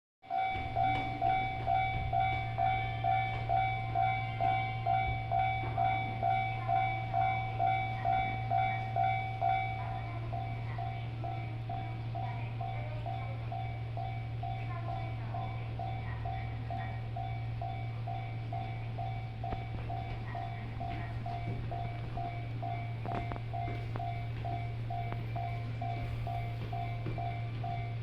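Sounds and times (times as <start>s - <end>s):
level crossing bell ringing: 0.3s - 28.0s
steady low hum: 0.3s - 28.0s.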